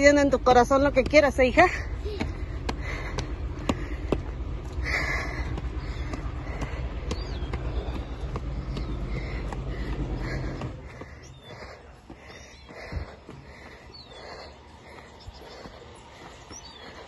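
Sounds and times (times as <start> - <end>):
footsteps on stone steps: 0.0 - 17.0.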